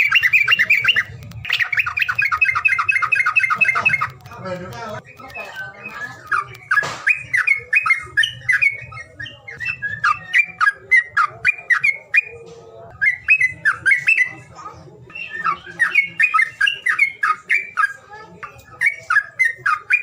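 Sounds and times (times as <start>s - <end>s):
songbird chattering calls: 0.0s - 14.5s, 15.1s - 20.0s.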